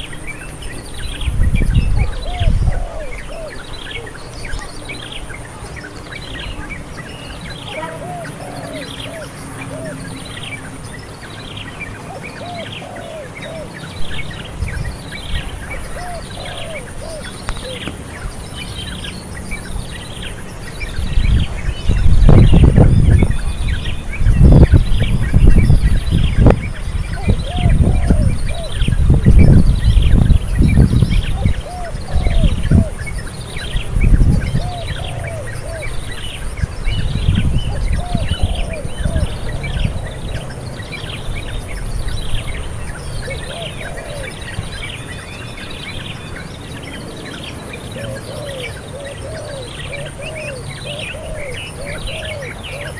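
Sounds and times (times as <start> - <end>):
birds chirping: 0.0 - 52.9
lower rising-and-falling bird notes: 0.0 - 52.9.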